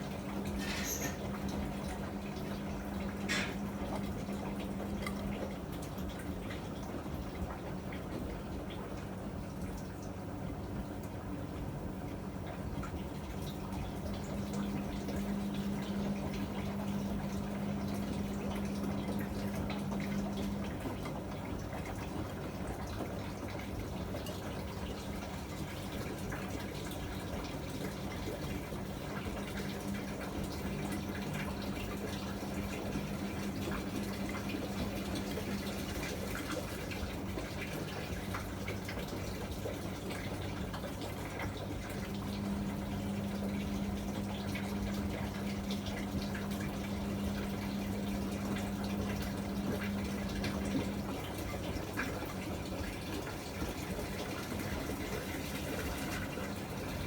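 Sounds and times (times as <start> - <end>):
washing machine motor hum: 0.0 - 57.0
water sloshing in washing machine: 0.0 - 57.0.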